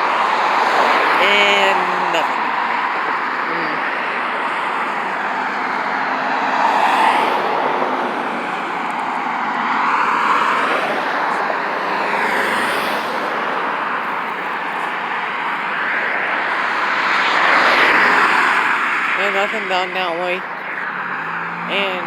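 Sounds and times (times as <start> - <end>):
cars passing by: 0.0 - 22.0.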